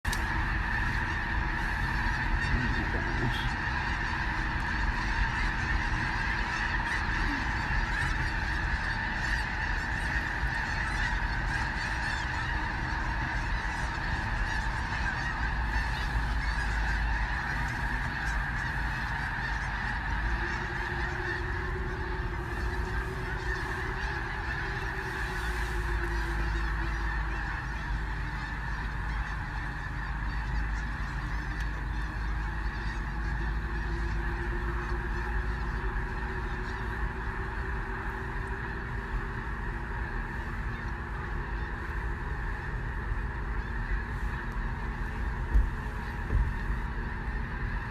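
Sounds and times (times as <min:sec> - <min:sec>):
cranes calling: 0:00.1 - 0:47.9.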